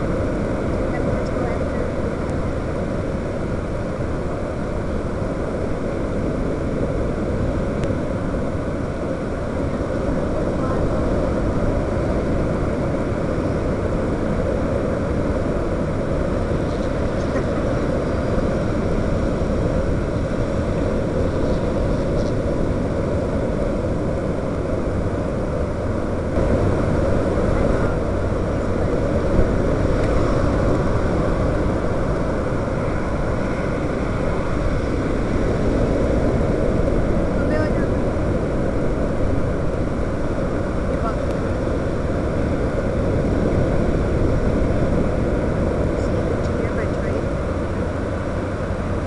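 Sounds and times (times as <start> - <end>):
quadcopter rotors droning: 0.0 - 49.0
wind on microphone: 0.0 - 49.0.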